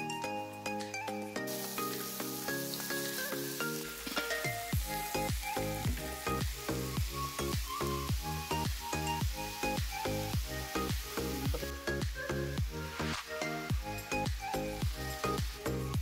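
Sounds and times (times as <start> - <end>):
background music with beat: 0.0 - 16.0
food sizzling in pan: 1.5 - 16.0.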